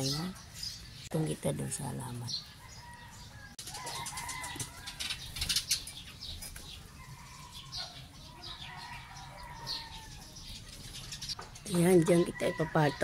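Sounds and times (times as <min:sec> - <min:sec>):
small bird chirping: 0:00.0 - 0:12.6.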